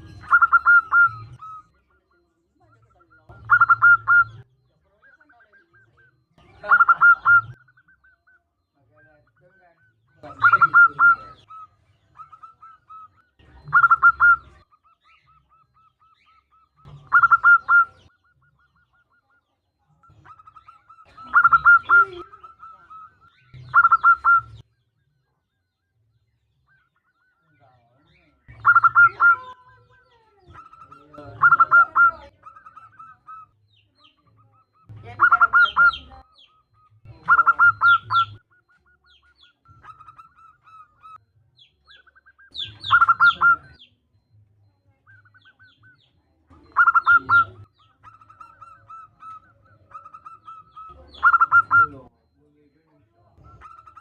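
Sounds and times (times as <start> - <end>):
dove rolling coos: 0.0 - 2.3, 3.0 - 8.4, 9.3 - 19.1, 20.1 - 24.6, 28.5 - 29.8, 30.5 - 33.7, 34.3 - 41.3, 41.9 - 44.3, 45.1 - 52.1, 53.4 - 54.0.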